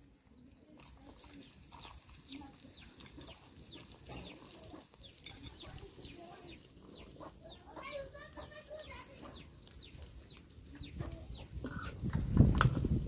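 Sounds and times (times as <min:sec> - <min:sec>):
birds chirping: 0:01.2 - 0:12.8.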